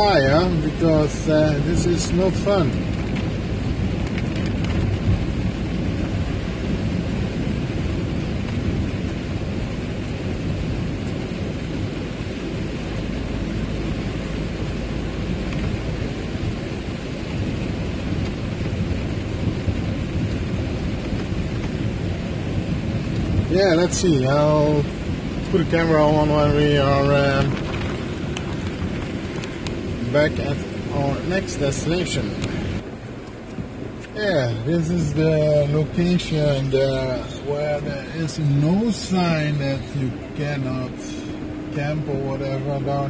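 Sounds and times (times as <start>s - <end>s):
rain on windscreen: 0.0s - 43.0s
tyres on wet asphalt: 0.0s - 43.0s
van engine: 0.0s - 43.0s.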